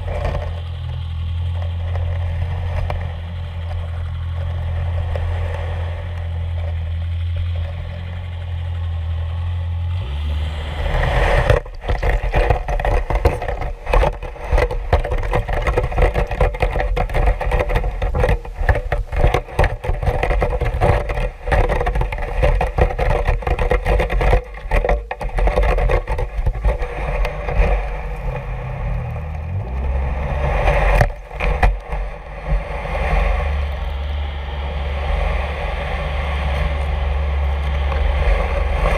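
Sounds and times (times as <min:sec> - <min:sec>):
underwater boat engine drone: 0:00.0 - 0:38.9.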